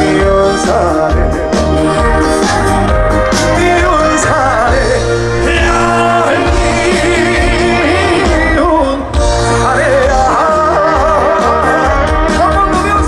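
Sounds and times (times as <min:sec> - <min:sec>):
man singing with vibrato: 0:00.0 - 0:02.5, 0:03.2 - 0:13.0
band accompaniment: 0:00.0 - 0:13.0
steady bass line: 0:00.0 - 0:13.0.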